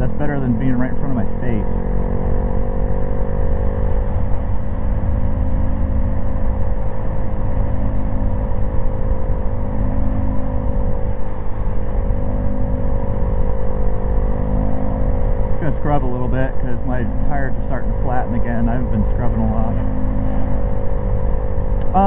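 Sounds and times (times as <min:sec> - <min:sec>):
small motorcycle engine cruising: 0:00.0 - 0:22.0.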